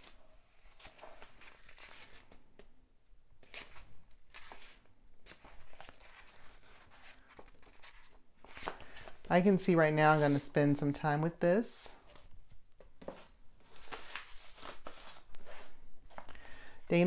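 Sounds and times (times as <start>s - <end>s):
book pages turning: 0.0s - 2.7s, 3.4s - 10.5s, 12.1s - 16.8s.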